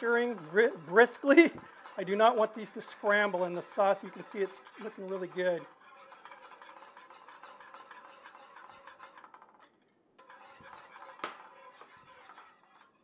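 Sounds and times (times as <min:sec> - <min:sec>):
whisk stirring sauce in metal pan: 0:00.0 - 0:09.6, 0:10.2 - 0:13.0.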